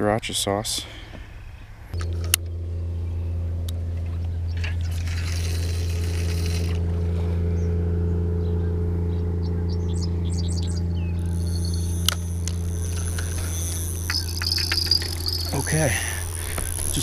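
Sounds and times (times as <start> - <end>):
low machine hum: 1.4 - 17.0.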